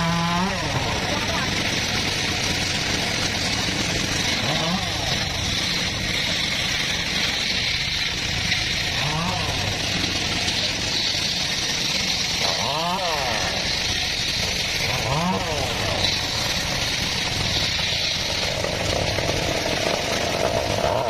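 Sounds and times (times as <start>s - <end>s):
engine-driven saw cutting wood: 0.0s - 21.0s.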